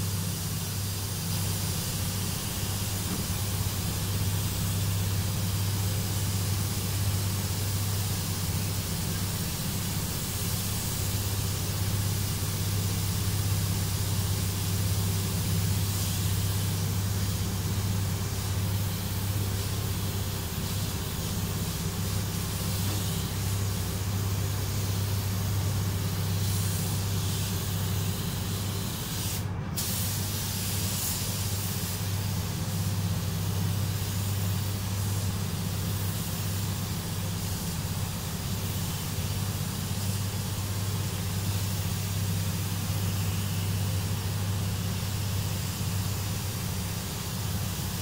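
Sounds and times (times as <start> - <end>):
air spray gun hissing: 0.0 - 48.0
steady low hum: 0.0 - 48.0.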